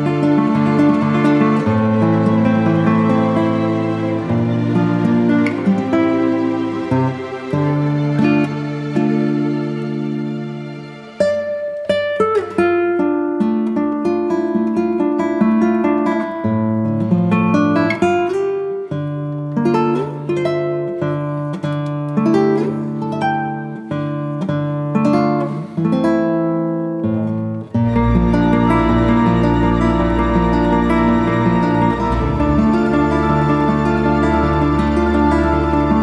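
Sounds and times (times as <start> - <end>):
acoustic guitar picking melody: 0.0 - 36.0.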